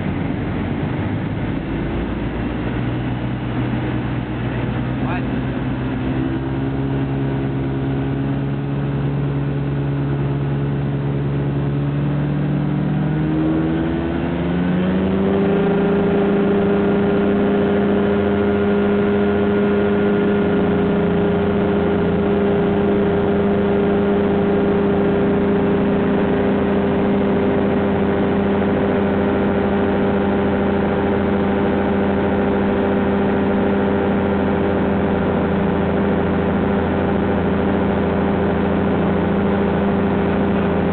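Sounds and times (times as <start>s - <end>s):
light aircraft piston engine: 0.0s - 40.9s.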